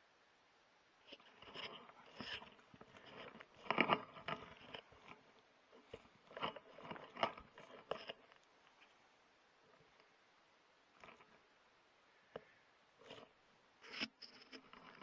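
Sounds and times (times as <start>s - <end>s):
crunching and scraping close up: 1.0s - 10.2s, 10.9s - 11.6s, 12.2s - 15.0s.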